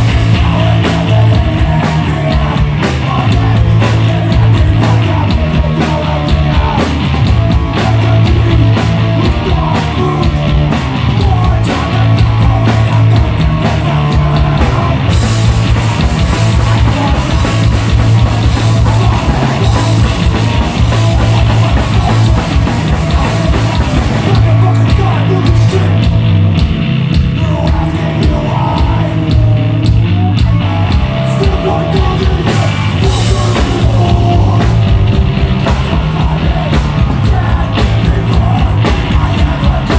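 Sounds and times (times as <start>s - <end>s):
shouted vocals: 0.0s - 26.0s, 27.4s - 39.9s
punk band playing live: 0.0s - 39.9s.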